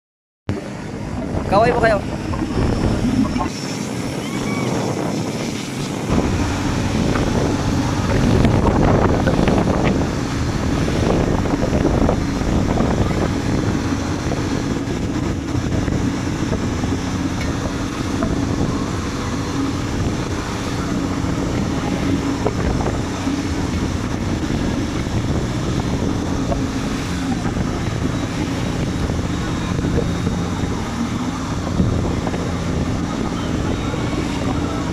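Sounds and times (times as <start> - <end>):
boat motor running: 0.5 - 34.9
wind buffeting microphone: 0.5 - 34.9.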